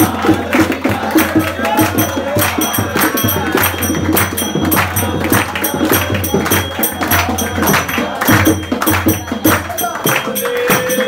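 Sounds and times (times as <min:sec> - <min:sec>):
hand clapping: 0:00.0 - 0:11.0
jingling percussion: 0:00.0 - 0:11.0
voices singing: 0:00.0 - 0:11.0.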